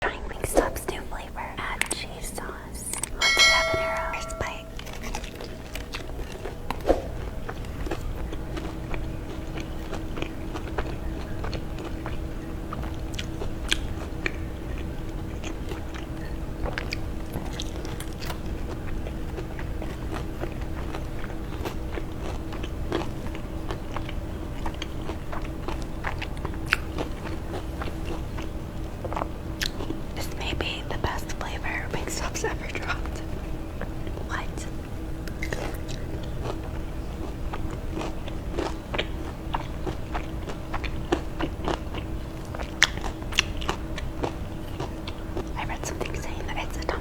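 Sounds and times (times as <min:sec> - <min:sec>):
faint steady hum: 0:00.0 - 0:47.0
crunchy chewing: 0:04.8 - 0:47.0.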